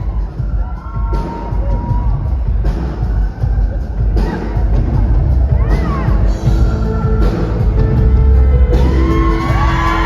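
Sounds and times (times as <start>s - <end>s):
crowd noise: 0.0s - 10.0s
live music with heavy bass beat: 0.0s - 10.0s.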